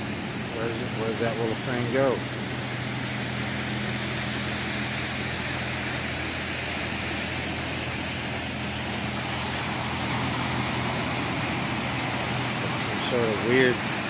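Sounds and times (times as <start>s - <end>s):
constant rushing noise: 0.0s - 14.0s
low mechanical hum: 0.0s - 14.0s.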